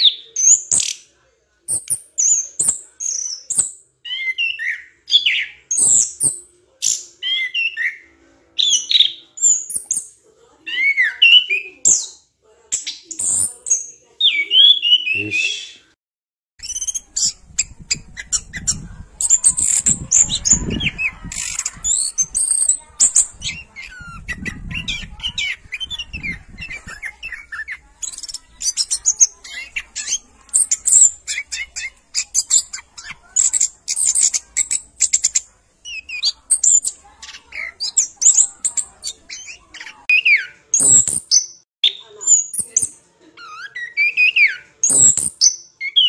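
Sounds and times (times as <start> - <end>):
birds chirping and squawking: 0.0 - 1.1, 1.7 - 15.9, 16.6 - 46.0.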